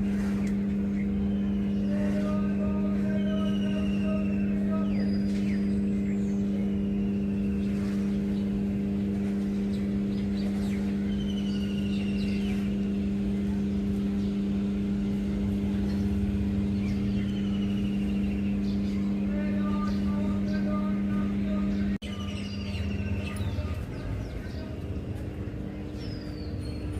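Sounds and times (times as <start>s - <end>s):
motor hum: 0.0s - 26.9s.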